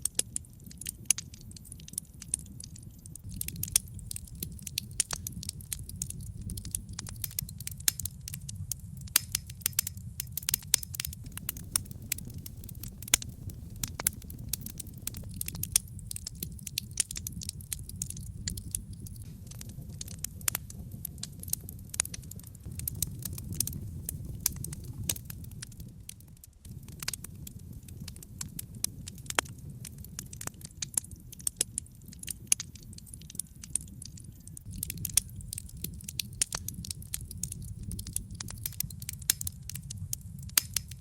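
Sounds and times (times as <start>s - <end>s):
logs crackling in a fireplace: 0.0s - 41.0s.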